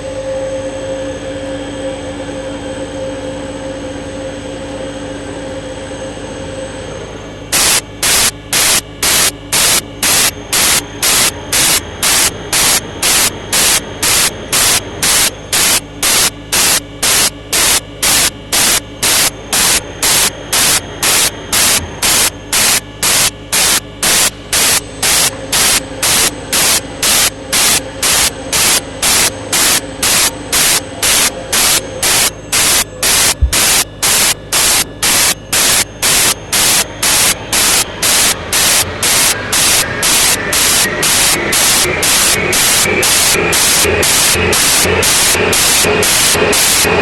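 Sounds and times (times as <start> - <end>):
pulsing static hiss: 7.5 - 47.0.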